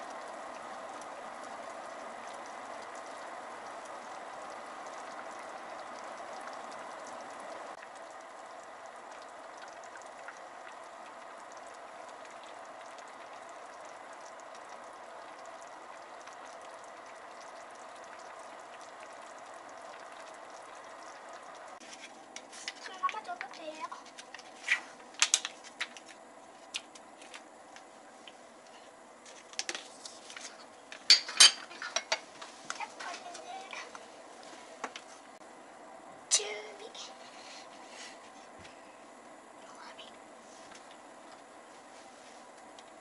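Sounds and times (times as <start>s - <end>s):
stew bubbling in a pot: 0.0s - 43.0s.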